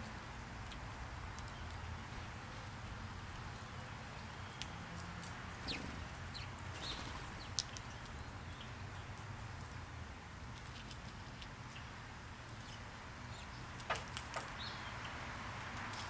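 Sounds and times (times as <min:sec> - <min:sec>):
animals pecking at seed on pavement: 0:00.0 - 0:16.0.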